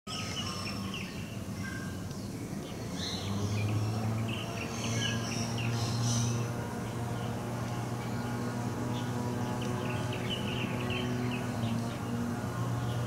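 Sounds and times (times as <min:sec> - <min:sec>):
birds chirping: 0:00.1 - 0:13.0
steady low hum: 0:00.3 - 0:13.0.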